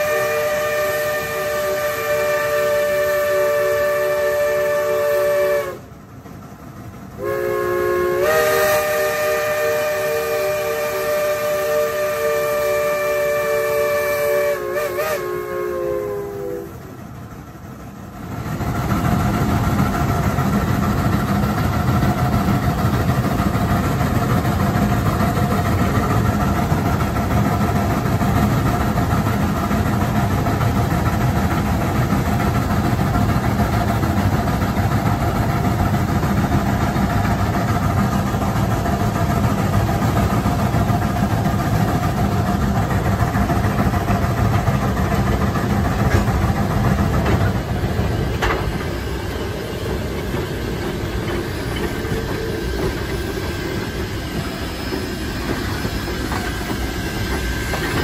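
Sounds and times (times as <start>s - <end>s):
heavy train rumble: 0.0s - 58.0s.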